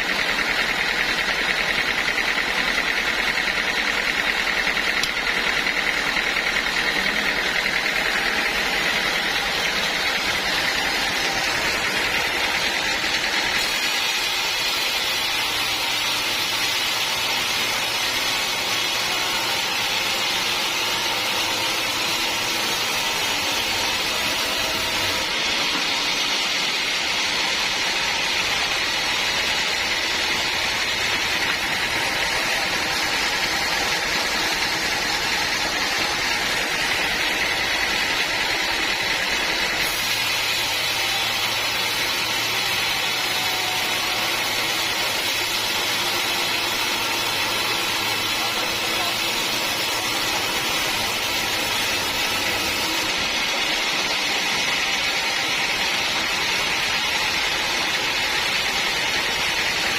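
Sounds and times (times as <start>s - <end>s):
sawmill saw cutting wood: 0.0s - 59.9s.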